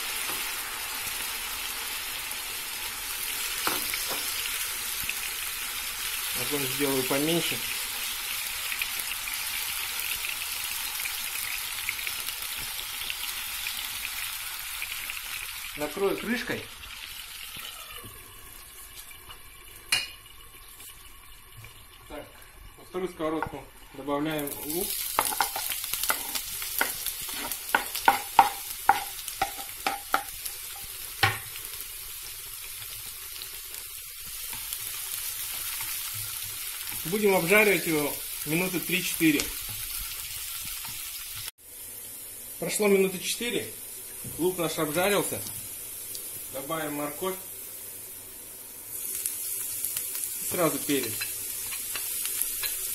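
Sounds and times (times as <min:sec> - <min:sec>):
chicken sizzling in oil: 0:00.0 - 0:52.9.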